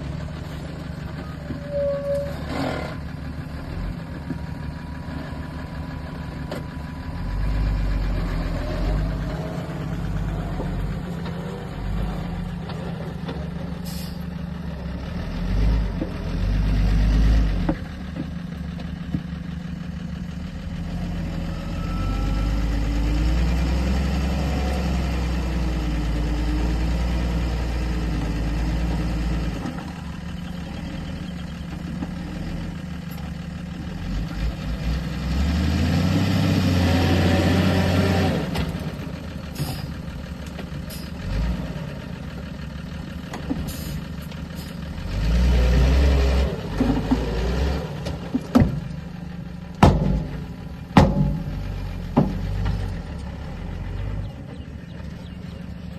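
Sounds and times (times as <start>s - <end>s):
heavy vehicle engines running: 0.0s - 55.9s.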